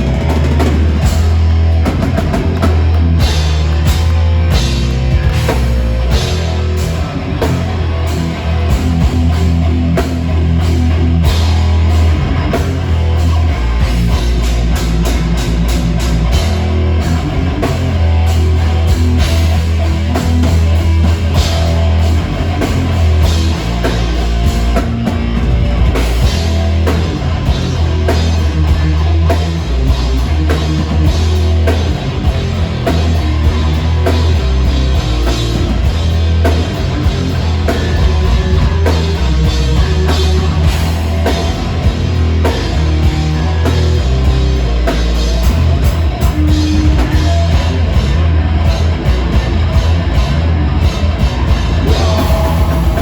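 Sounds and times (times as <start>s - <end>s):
bass guitar: 0.0s - 53.0s
distorted electric guitars: 0.0s - 53.0s
drum kit: 0.0s - 53.0s.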